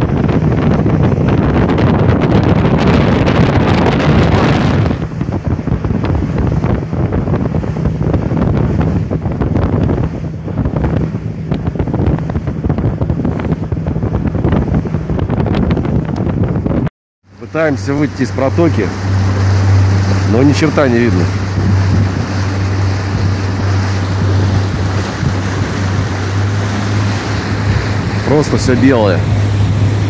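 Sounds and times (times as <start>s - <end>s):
motorboat engine running: 0.0s - 30.0s
water rushing past hull: 0.0s - 30.0s
wind buffeting microphone: 0.0s - 30.0s.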